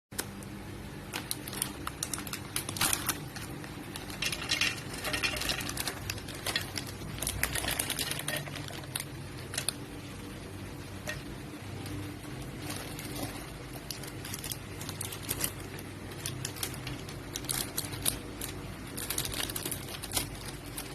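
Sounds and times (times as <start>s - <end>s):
hard objects clicking and rattling: 0.2s - 20.9s.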